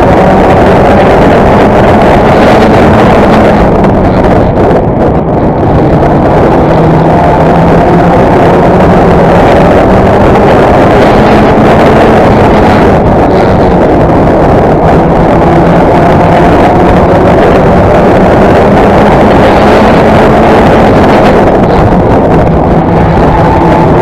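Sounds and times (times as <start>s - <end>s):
race car engine at high revs: 0.0s - 24.0s
wind rushing over microphone: 0.0s - 24.0s.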